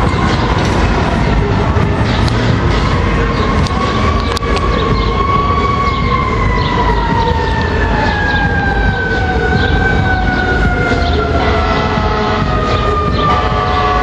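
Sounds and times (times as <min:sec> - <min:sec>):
fire truck siren wailing: 0:00.0 - 0:14.0
low rumble of traffic: 0:00.0 - 0:14.0.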